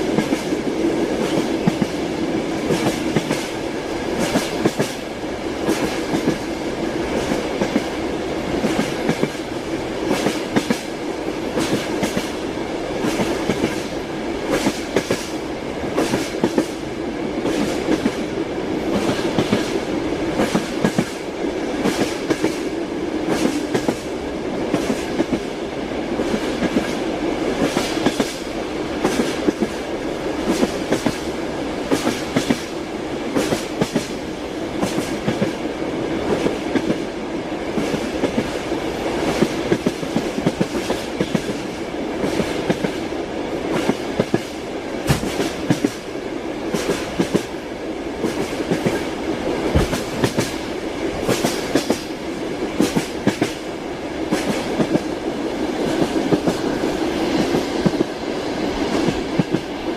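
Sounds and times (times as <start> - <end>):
train running rumble: 0.0 - 59.9
train wheels clattering on rails: 0.0 - 59.9.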